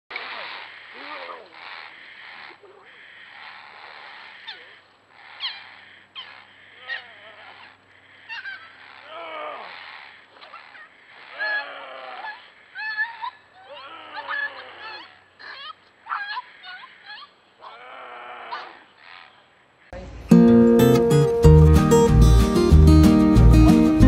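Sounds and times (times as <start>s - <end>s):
puppy yelping: 0.1s - 19.4s.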